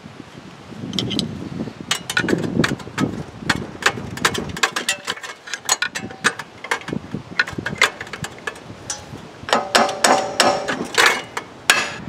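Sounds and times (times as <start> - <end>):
hammer knocking on metal: 1.9 - 12.0.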